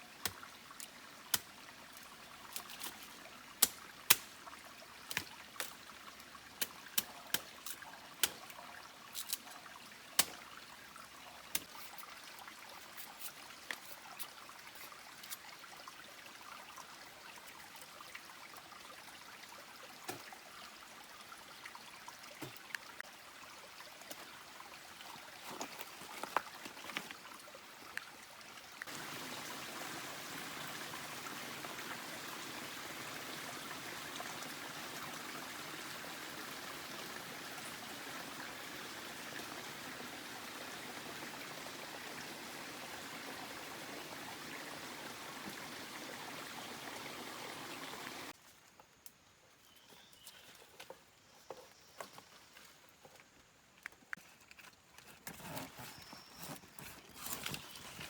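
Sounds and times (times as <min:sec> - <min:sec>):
running water rushing: 0:00.0 - 0:48.4.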